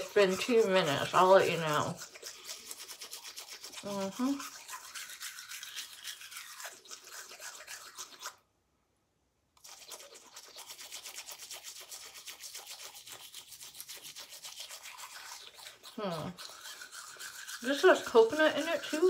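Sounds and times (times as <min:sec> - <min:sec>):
toothbrush scrubbing teeth: 0:00.0 - 0:08.4, 0:09.6 - 0:19.0.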